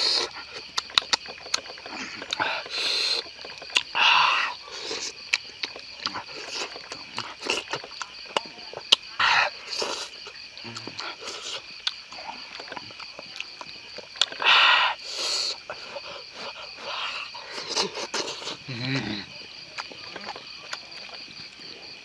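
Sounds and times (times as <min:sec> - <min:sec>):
mouth smacking while eating: 0:00.0 - 0:21.4
insects chirring: 0:00.0 - 0:22.0.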